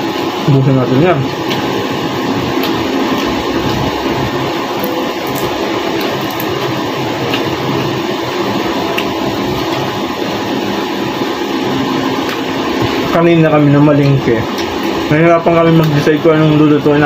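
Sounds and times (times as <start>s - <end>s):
mechanical rumble and hum: 0.0s - 17.0s.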